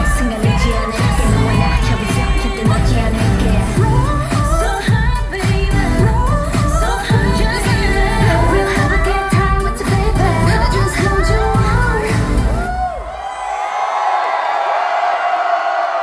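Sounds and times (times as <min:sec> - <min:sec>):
pop song over sound system: 0:00.0 - 0:13.2.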